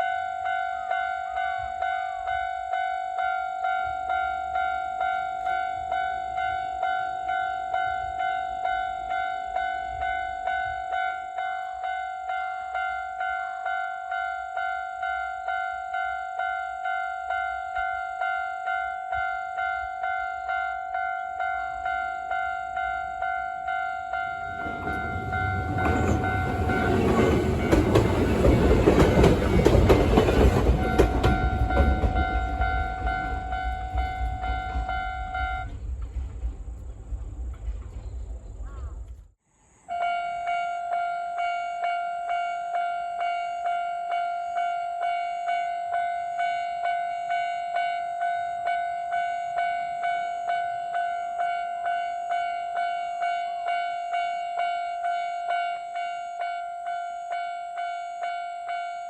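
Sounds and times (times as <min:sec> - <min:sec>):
railway crossing bell ringing: 0:00.0 - 0:36.8, 0:40.0 - 0:59.0
electric train passing: 0:00.0 - 0:58.9.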